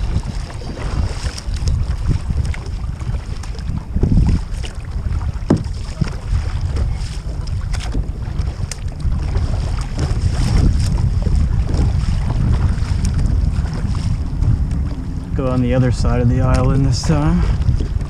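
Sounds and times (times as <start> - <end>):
paddle splashing in water: 0.0 - 18.0
wind buffeting microphone: 0.0 - 18.0.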